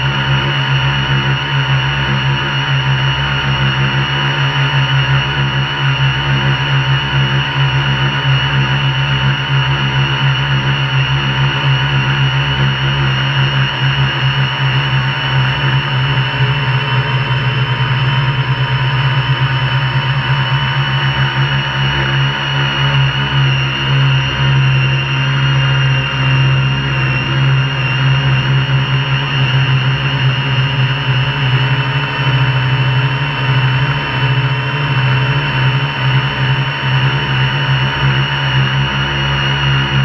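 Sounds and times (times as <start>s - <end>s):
drone motors humming and whining: 0.0s - 40.0s.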